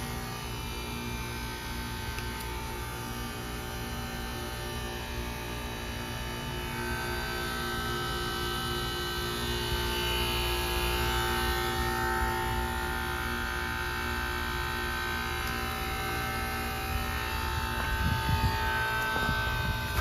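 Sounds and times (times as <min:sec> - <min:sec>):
heat pump compressor hum: 0:00.0 - 0:20.0.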